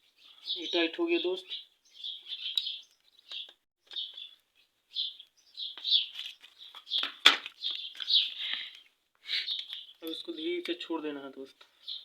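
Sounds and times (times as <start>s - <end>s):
small bird chirping: 0.0s - 10.6s, 11.8s - 12.0s.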